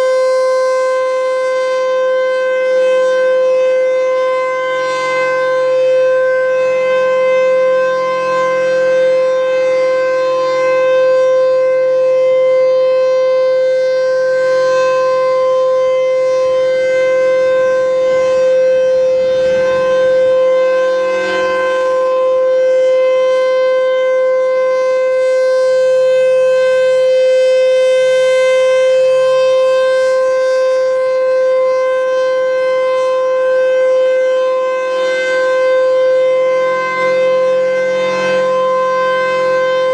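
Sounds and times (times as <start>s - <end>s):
tornado siren: 0.0s - 39.9s.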